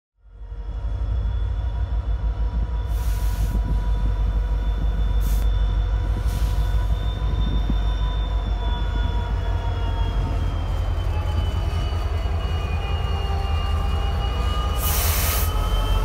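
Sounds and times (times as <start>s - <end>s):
diesel locomotive engines rumbling: 0.2s - 16.0s
high whine: 0.6s - 16.0s.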